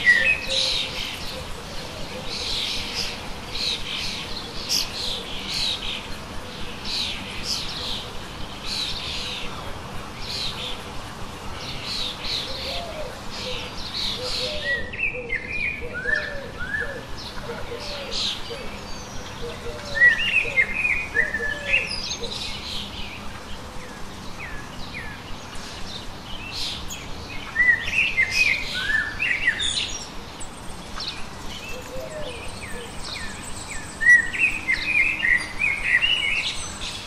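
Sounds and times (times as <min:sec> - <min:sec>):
outdoor background hiss: 0:00.0 - 0:37.0
songbirds chirping: 0:00.0 - 0:37.0.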